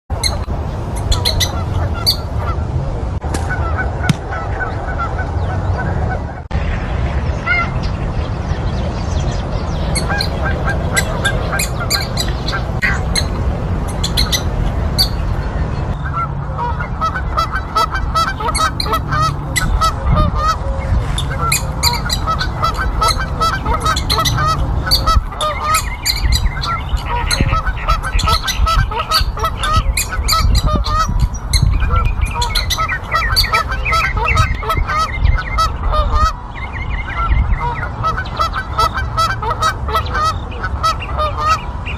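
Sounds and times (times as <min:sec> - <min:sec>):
steady low rumble: 0:00.1 - 0:41.9.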